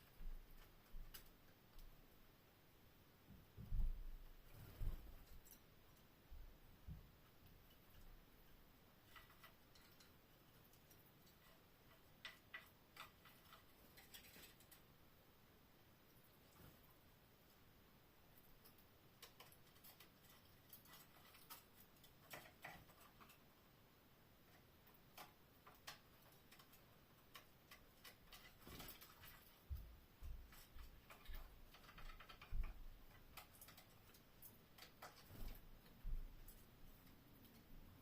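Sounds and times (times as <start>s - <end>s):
canaries clicking and tapping: 0.0s - 2.1s, 3.6s - 15.0s, 16.0s - 38.0s.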